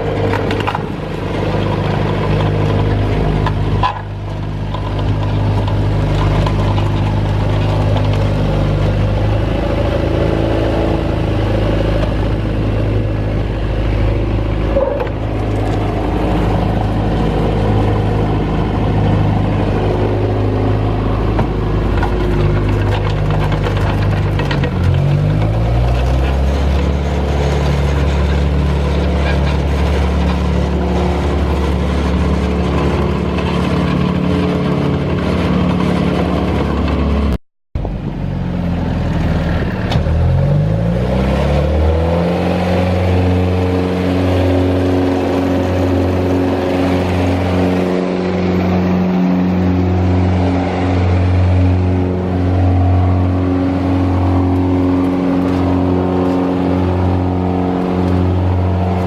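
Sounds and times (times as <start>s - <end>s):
wood chipper diesel engine running: 0.0s - 59.0s.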